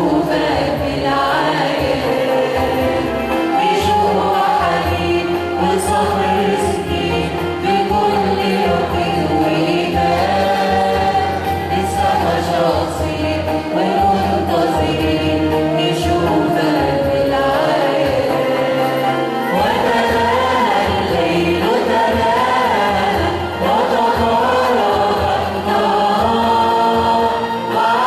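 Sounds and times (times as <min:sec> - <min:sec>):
church choir singing a hymn: 0:00.0 - 0:28.0.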